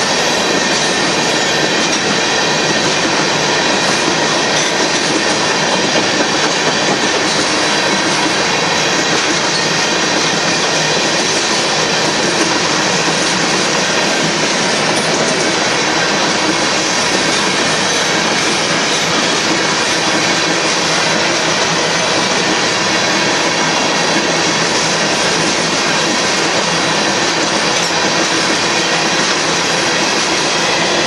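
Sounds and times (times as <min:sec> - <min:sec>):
freight train wheels on rails: 0:00.0 - 0:31.0.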